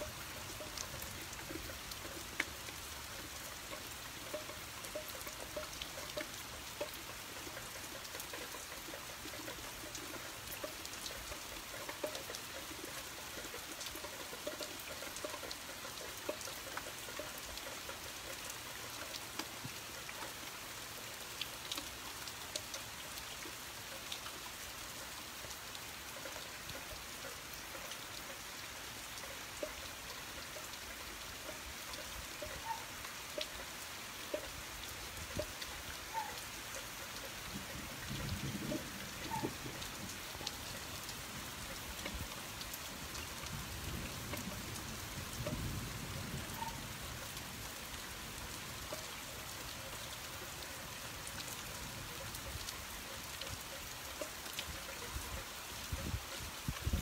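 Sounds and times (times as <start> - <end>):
rain falling: 0.0 - 57.0
raindrops striking close by: 0.0 - 57.0.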